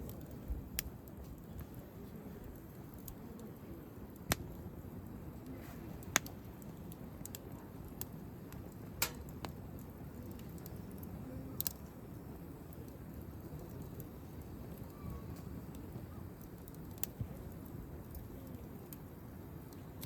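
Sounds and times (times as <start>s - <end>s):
campfire crackling: 0.0s - 20.0s
sharp pops from burning wood: 0.0s - 20.0s.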